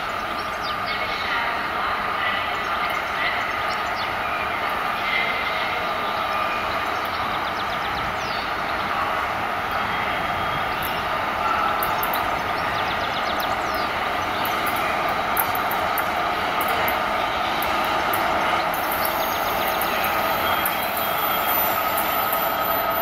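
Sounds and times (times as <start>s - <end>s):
electric locomotive running: 0.0s - 23.0s.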